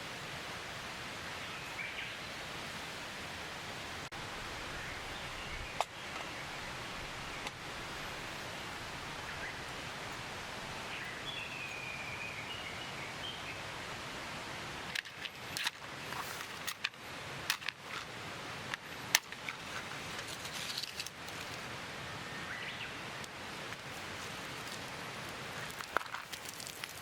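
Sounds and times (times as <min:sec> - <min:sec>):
steady rushing hiss: 0:00.0 - 0:27.0.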